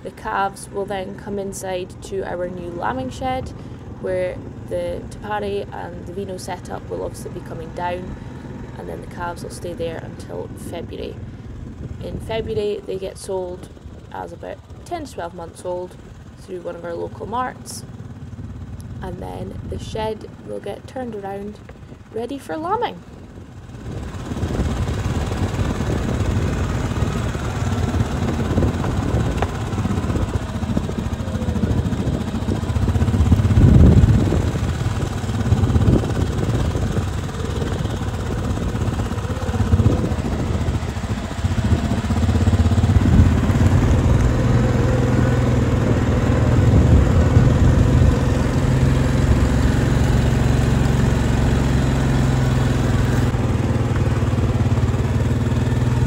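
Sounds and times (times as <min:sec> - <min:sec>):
farm vehicle engine idling: 0:00.0 - 0:56.0.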